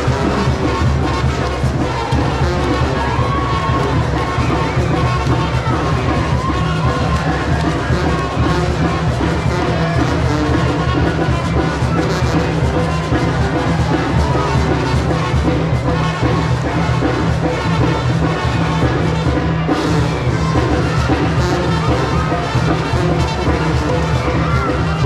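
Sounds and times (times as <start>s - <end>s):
band with brass and drums: 0.0s - 25.0s.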